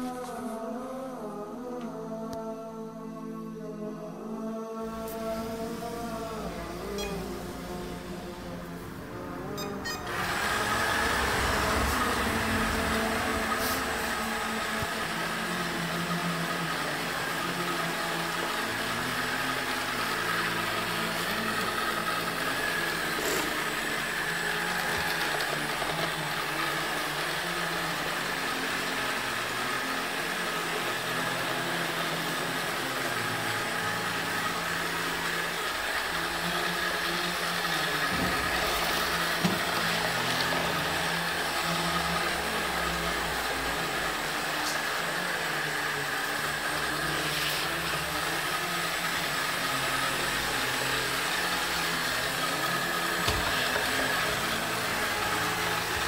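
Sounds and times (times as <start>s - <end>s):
robot vacuum cleaner whirring: 5.0s - 56.0s.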